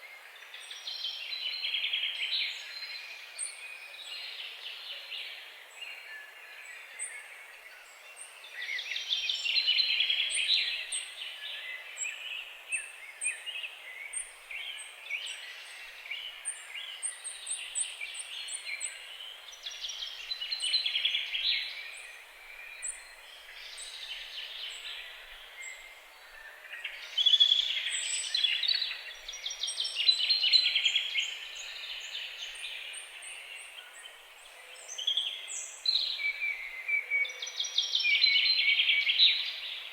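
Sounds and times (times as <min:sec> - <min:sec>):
birds singing and calling: 0:00.4 - 0:39.9.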